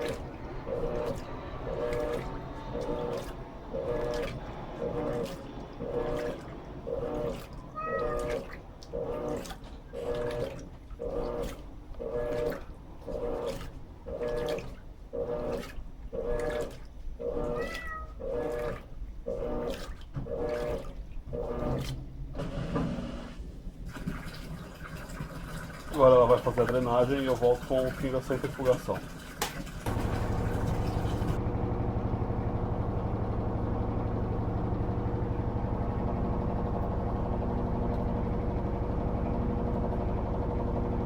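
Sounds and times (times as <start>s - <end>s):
washing machine motor humming: 0.0s - 41.0s
water swishing in tub: 0.0s - 41.0s.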